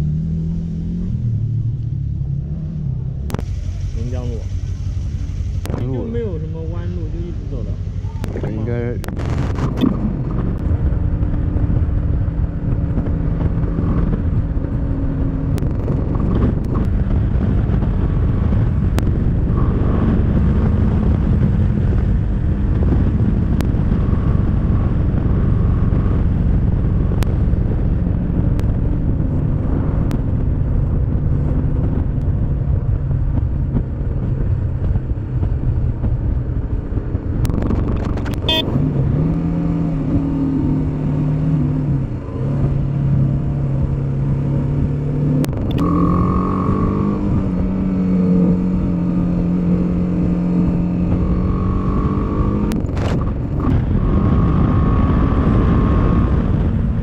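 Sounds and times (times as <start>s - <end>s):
motorcycle engine running: 0.0s - 57.0s
wind rushing on microphone: 0.0s - 57.0s.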